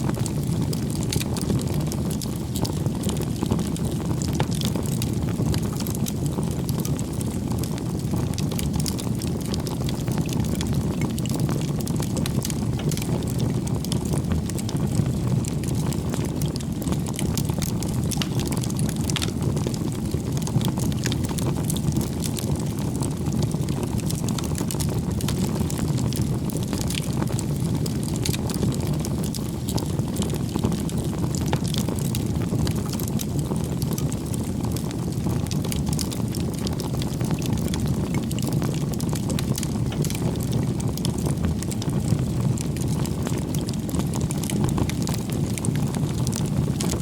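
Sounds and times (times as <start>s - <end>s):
bonfire flames rushing: 0.0s - 47.0s
wood crackling and popping: 0.0s - 47.0s.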